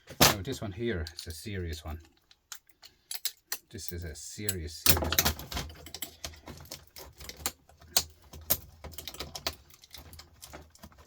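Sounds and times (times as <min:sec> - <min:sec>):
hand tools clicking on metal and plastic: 0:01.0 - 0:11.0.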